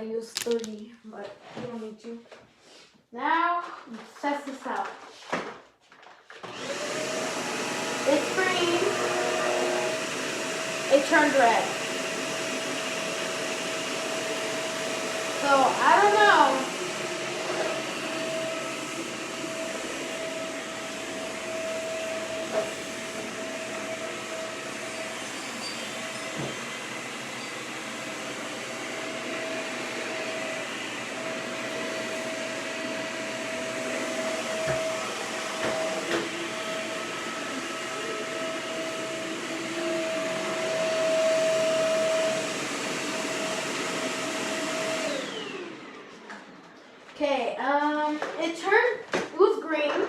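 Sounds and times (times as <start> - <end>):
vacuum cleaner motor whining: 6.4 - 47.0.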